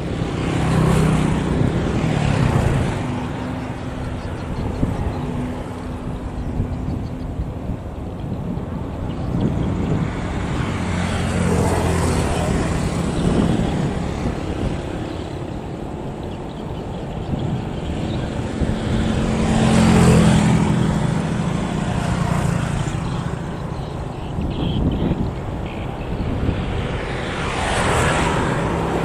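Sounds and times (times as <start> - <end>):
boat engines droning: 0.0 - 27.5.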